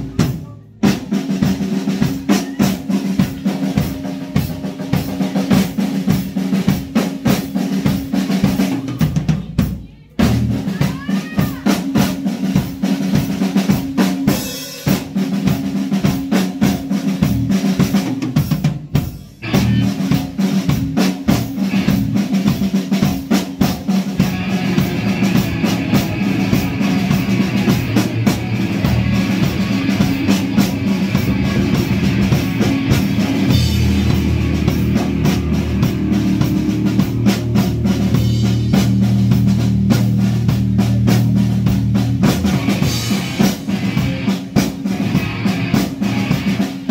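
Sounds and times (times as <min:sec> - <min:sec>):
drum kit: 0:00.0 - 0:46.9
punk rock band playing: 0:00.0 - 0:46.9.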